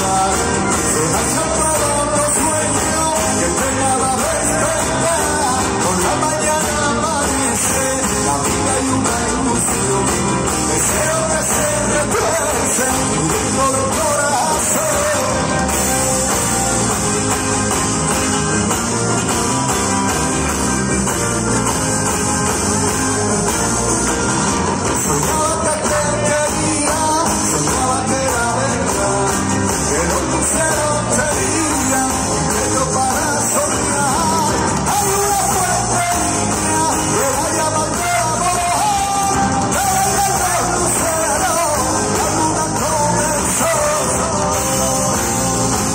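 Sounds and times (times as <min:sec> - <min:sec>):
electric guitar lead line: 0:00.0 - 0:45.9
live rock band playing: 0:00.0 - 0:45.9.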